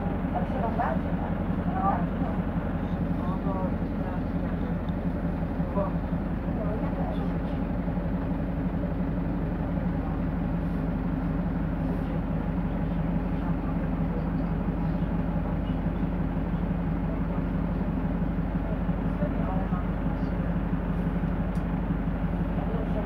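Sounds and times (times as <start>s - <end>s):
bus diesel engine idling: 0.0s - 23.0s.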